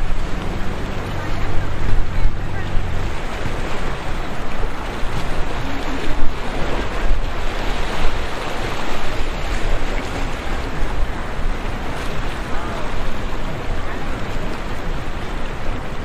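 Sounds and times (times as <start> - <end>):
waves and surf: 0.0 - 16.0
wind buffeting microphone: 0.0 - 16.0.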